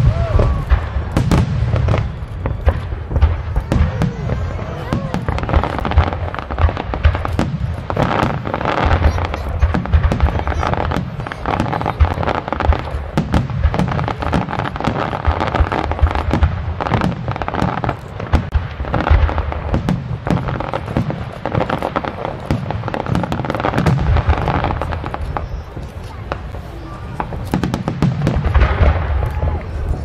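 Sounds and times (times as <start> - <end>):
fireworks booming: 0.0 - 30.0
fireworks popping and crackling: 0.0 - 30.0.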